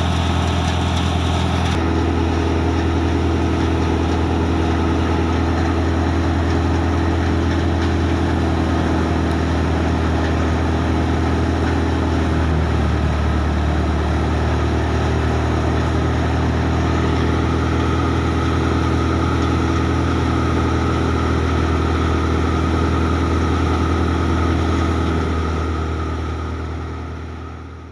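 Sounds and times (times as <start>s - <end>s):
thresher drum and blower turning: 0.0s - 27.8s
tractor diesel engine running: 0.0s - 27.9s.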